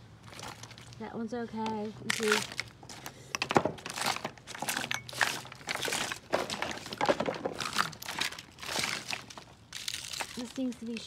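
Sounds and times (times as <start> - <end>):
plastic items rustling and clattering: 0.2 - 11.0.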